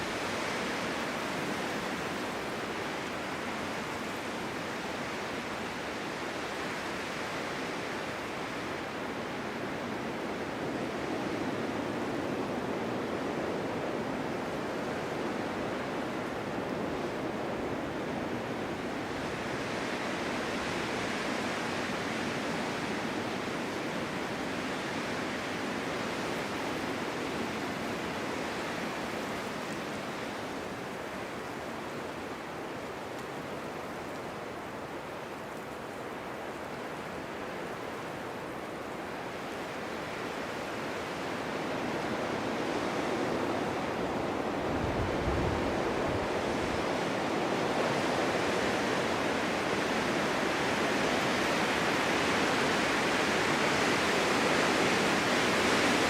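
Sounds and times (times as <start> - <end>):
strong wind blowing snow: 0.0 - 56.0.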